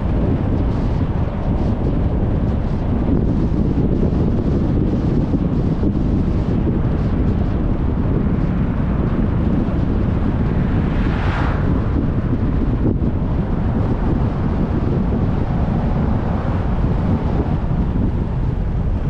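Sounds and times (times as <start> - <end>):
wind and road noise: 0.0 - 19.0
wind buffeting microphone: 0.0 - 19.0.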